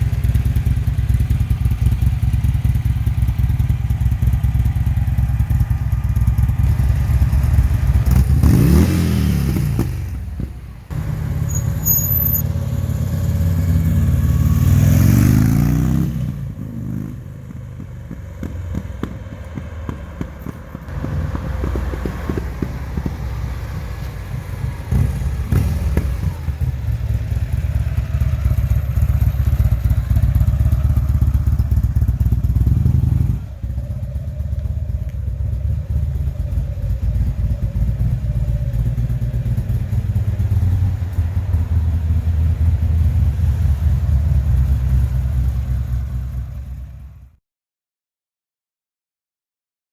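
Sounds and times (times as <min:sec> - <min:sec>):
motorcycle engine revving: 0:00.0 - 0:47.3.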